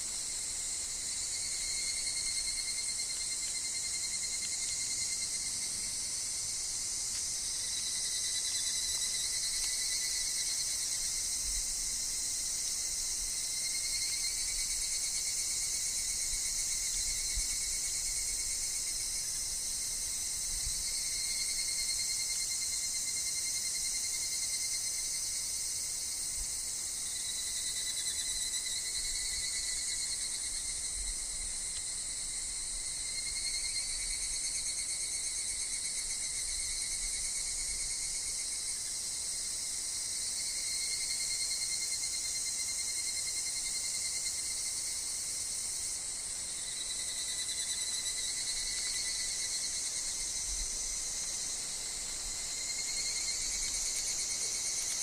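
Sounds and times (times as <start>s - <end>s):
cicadas droning and calling: 0.0s - 55.0s.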